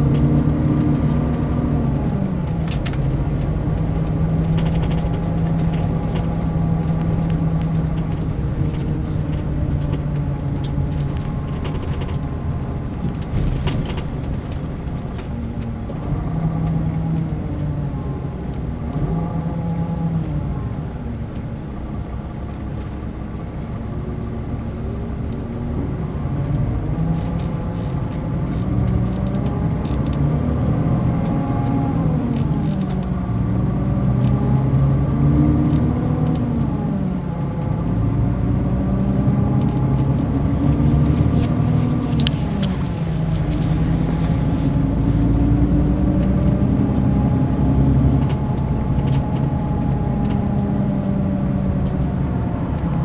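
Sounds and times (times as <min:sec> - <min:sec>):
diesel bus engine running: 0:00.0 - 0:53.0.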